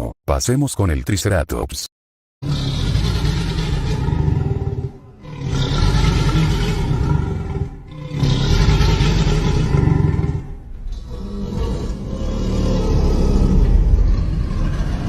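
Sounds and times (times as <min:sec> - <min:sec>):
deep low animal calls: 0:02.4 - 0:15.0.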